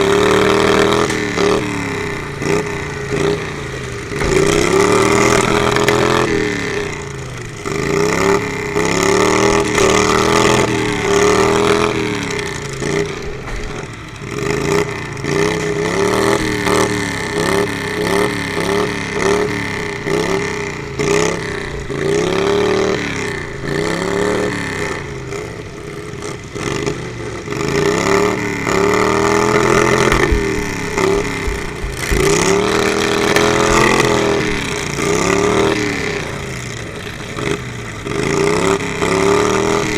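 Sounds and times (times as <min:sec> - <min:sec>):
lawnmower engines revving: 0:00.0 - 0:39.9.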